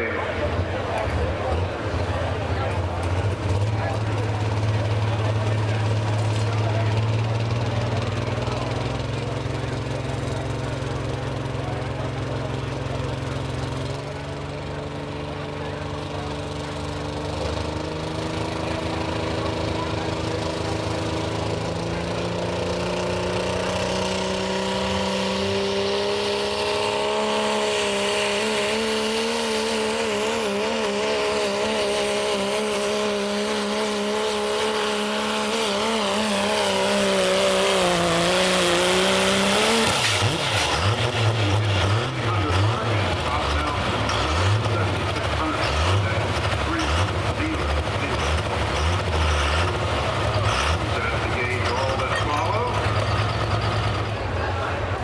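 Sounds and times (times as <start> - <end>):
diesel engine under full load: 0.0 - 55.0.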